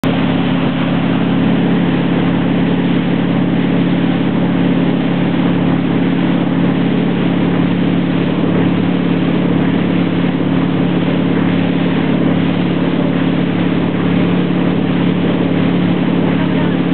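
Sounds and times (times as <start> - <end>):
boat engine running: 0.0 - 16.9
churning wake water rushing: 0.0 - 16.9.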